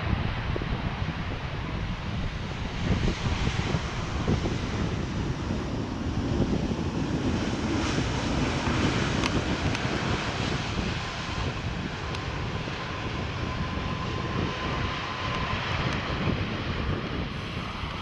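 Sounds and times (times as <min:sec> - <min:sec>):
faint jet engine whine: 0:00.0 - 0:18.0
jet engine rumble: 0:00.0 - 0:18.0.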